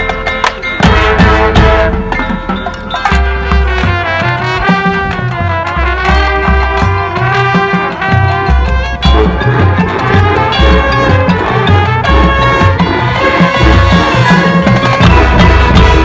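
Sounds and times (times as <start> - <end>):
marching band percussion: 0.0 - 16.0
brass chords: 0.8 - 16.0.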